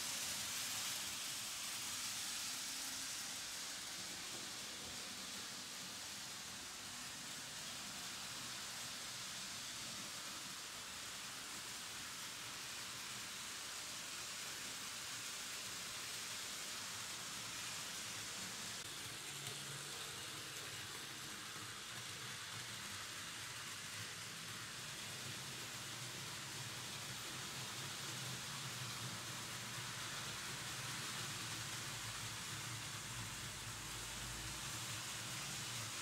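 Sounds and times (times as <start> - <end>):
model train wheels rolling on rails: 0.0 - 36.0.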